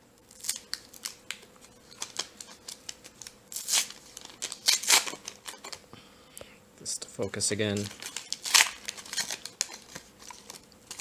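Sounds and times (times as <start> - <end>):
foil wrapper crinkling: 0.2 - 5.8, 7.6 - 11.0
foil wrapper ripping: 0.2 - 5.8, 7.6 - 11.0.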